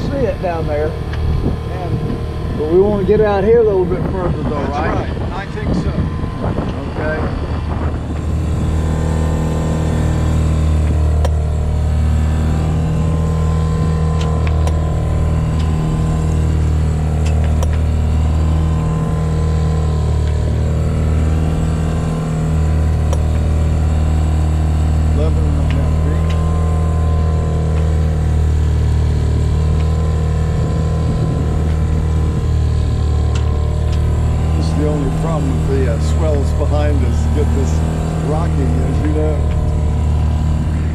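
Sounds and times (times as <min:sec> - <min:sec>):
outboard motor droning: 0:00.0 - 0:40.9.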